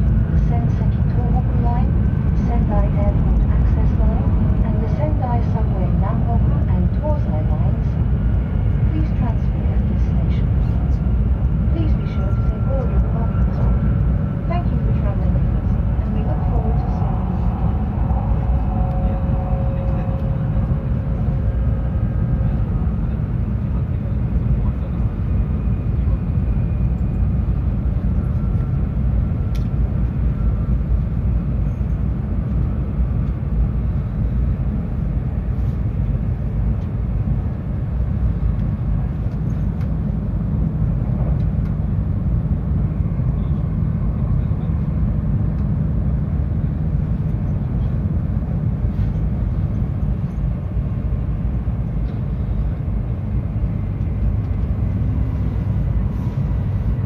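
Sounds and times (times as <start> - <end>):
train low rumble on board: 0.0 - 57.0.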